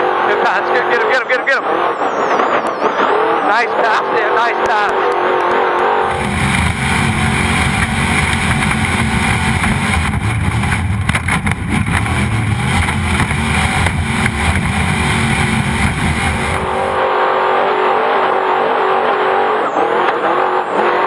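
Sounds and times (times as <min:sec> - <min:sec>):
truck engine running hard: 0:00.0 - 0:21.0
wind and tyre noise: 0:00.0 - 0:21.0.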